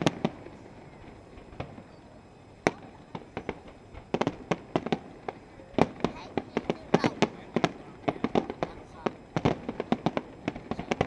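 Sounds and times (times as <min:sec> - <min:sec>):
fireworks bangs: 0:00.0 - 0:01.9, 0:02.6 - 0:11.0
fireworks cracks: 0:00.0 - 0:01.9, 0:02.6 - 0:11.0.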